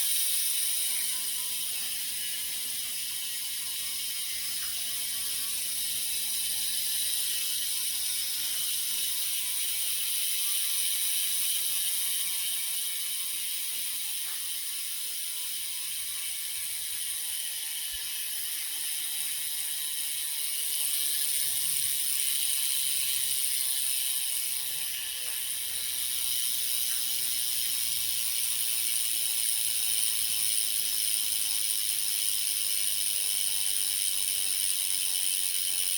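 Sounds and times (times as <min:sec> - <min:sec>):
bicycle hub ratcheting buzz: 0:00.0 - 0:35.9.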